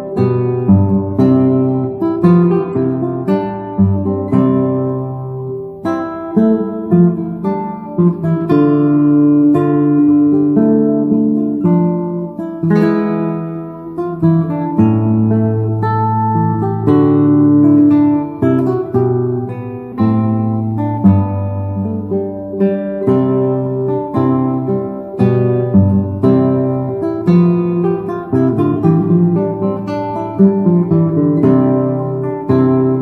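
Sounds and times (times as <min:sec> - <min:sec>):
acoustic guitar music: 0:00.0 - 0:33.0.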